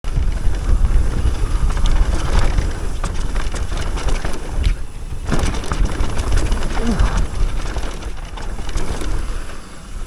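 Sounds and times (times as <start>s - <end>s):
mountain bike rumbling on dirt: 0.0s - 10.0s
wind buffeting microphone: 0.0s - 10.0s.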